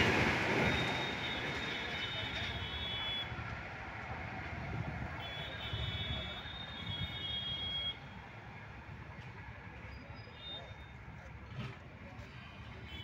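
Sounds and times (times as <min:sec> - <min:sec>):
low rumble of motorbikes and traffic: 0:00.0 - 0:13.0.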